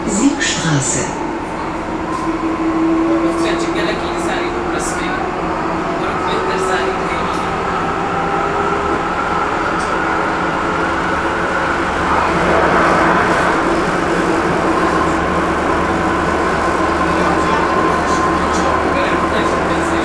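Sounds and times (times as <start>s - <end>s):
tram wheels rolling on rails: 1.4s - 20.0s.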